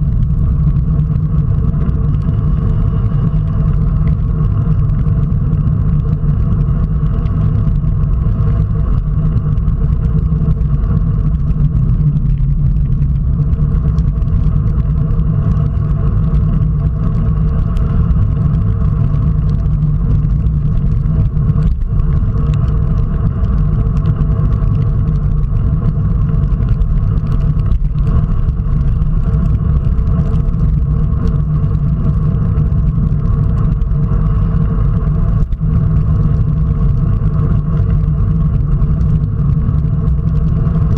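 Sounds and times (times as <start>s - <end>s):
tyres on wet road: 0.0s - 40.9s
wind buffeting microphone: 0.0s - 40.9s.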